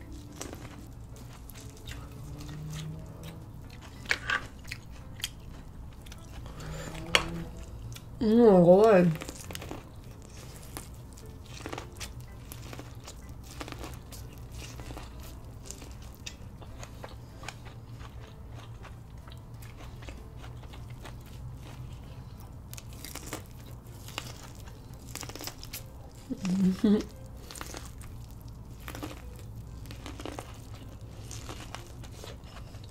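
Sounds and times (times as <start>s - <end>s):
chewing crunchy wet food: 0.0s - 8.2s, 8.8s - 32.9s
faint low hum: 0.0s - 32.9s.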